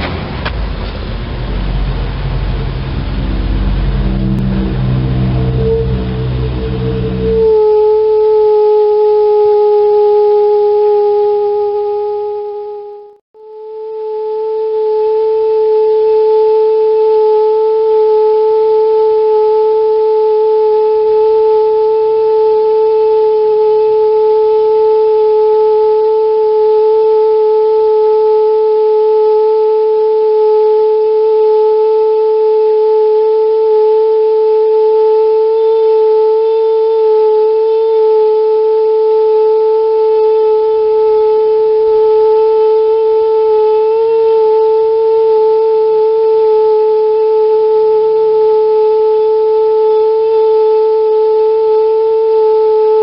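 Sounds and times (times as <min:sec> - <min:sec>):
heater hooting whistle: 0:00.7 - 0:53.0.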